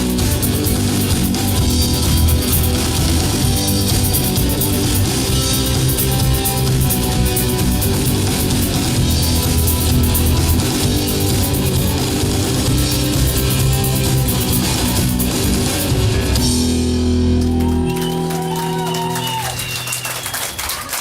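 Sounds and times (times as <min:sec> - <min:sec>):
live rock band playing: 0:00.0 - 0:20.2.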